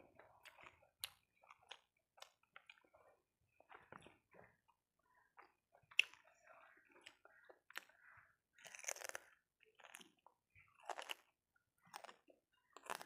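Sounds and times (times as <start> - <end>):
person chewing crunchy food: 0.1 - 4.1, 5.3 - 13.0.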